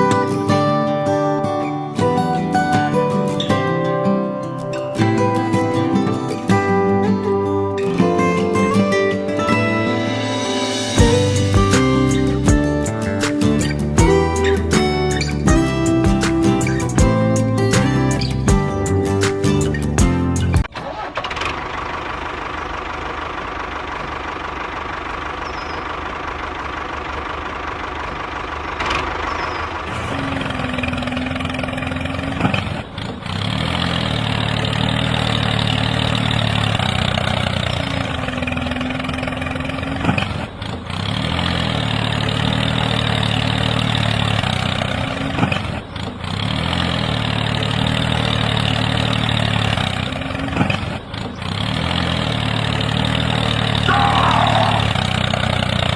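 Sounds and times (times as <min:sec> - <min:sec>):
engine idling: 0:05.0 - 0:55.9.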